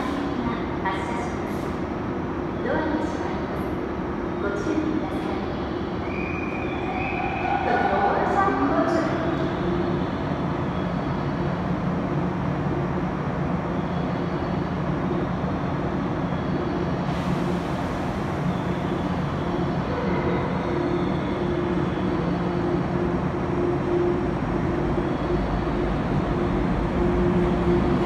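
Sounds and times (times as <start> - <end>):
electric train running hum: 0.0 - 28.0.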